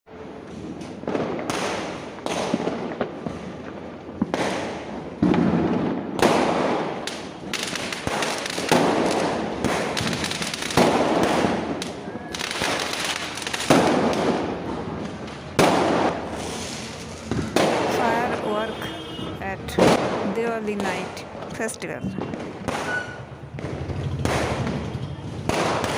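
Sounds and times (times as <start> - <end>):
fireworks bangs with hiss: 0.1 - 18.8, 19.8 - 21.1, 22.2 - 25.9.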